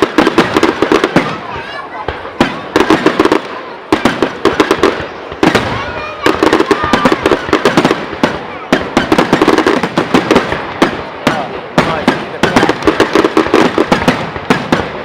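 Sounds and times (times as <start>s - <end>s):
fireworks cracking bangs: 0.0s - 15.0s.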